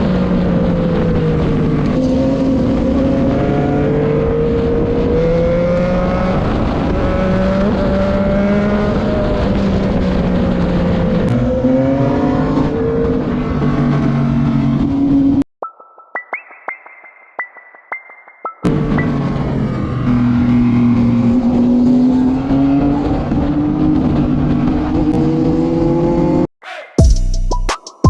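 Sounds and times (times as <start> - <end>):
racing motorcycle engines revving: 0.0 - 15.4, 18.7 - 26.5.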